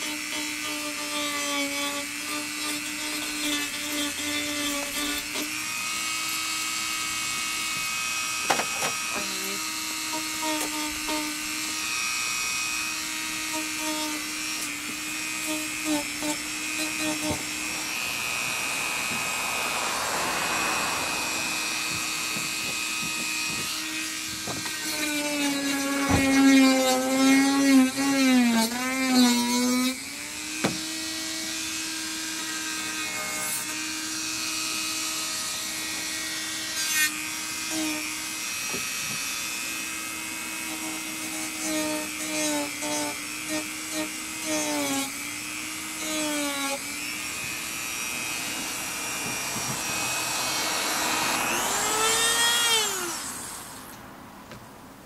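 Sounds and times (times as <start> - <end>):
power tool whining: 0.0 - 54.1.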